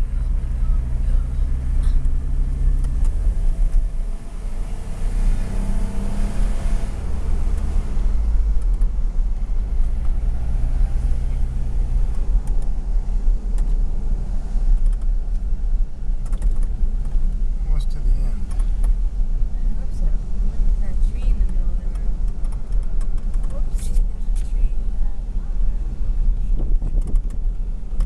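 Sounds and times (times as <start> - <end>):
car engine: 0.0 - 28.0.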